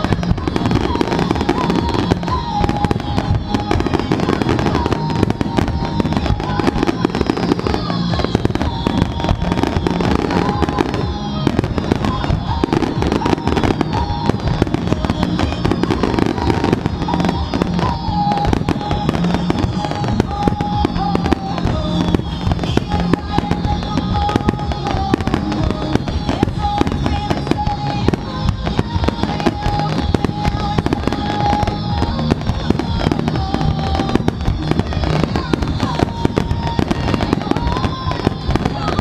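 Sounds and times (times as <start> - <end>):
fireworks crackles and bangs: 0.0 - 39.0
music playing: 0.0 - 39.0.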